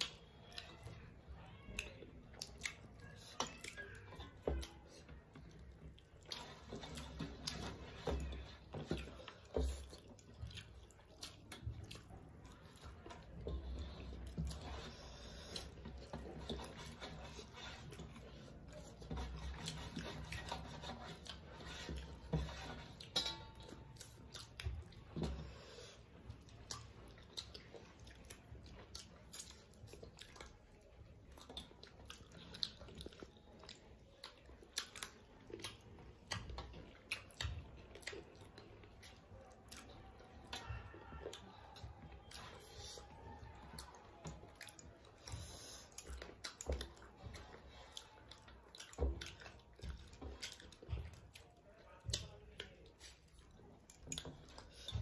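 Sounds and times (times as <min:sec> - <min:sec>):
people chewing: 0:00.0 - 0:55.0.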